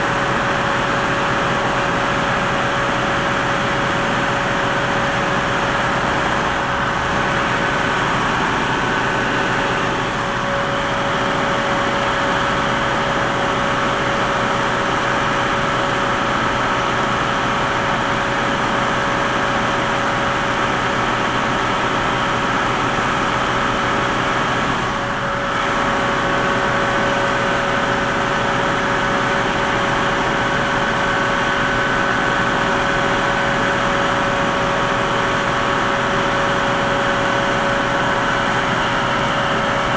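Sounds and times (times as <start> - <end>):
constant mechanical whine: 0.0 - 39.9
heavy diesel equipment running: 0.0 - 39.9.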